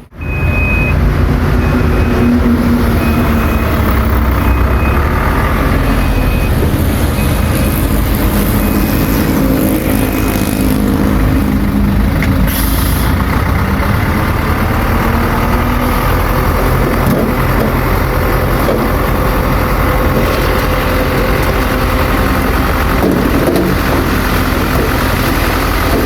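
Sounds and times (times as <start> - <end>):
heavy machine diesel engine running: 0.0 - 26.0.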